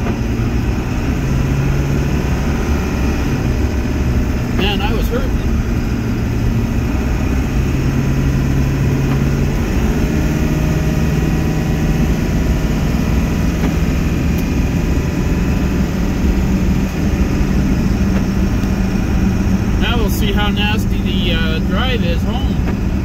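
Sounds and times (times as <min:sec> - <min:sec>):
diesel engine drone: 0:00.0 - 0:23.0
road rumble: 0:00.0 - 0:23.0.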